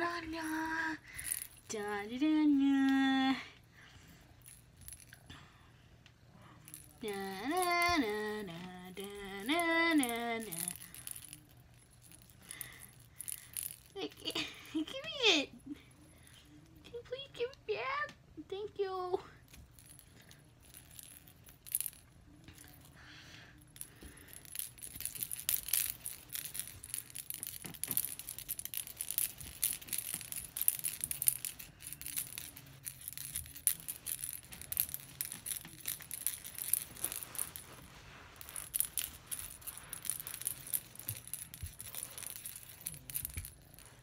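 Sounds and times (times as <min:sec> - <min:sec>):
toy rattling and jingling: 0:00.0 - 0:02.6, 0:04.0 - 0:05.3, 0:06.6 - 0:17.4, 0:19.4 - 0:44.0.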